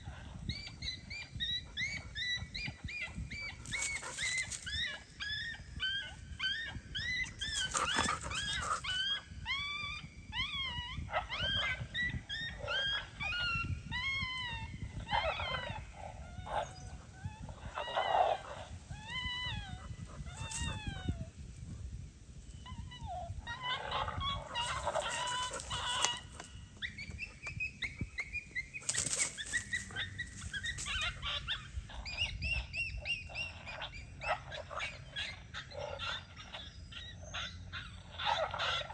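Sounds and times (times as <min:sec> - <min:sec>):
coyote yips and whines: 0:00.0 - 0:38.9.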